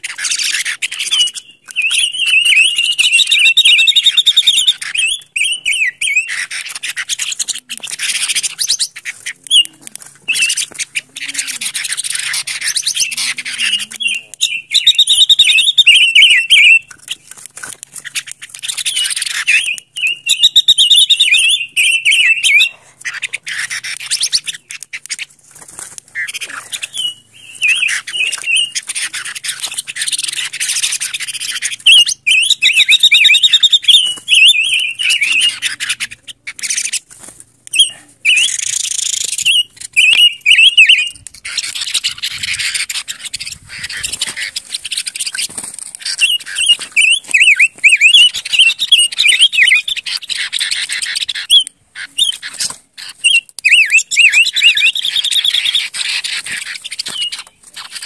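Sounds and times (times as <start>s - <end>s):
bird singing warbled phrases: 0.0s - 58.0s
hissy crackly background: 0.0s - 58.0s.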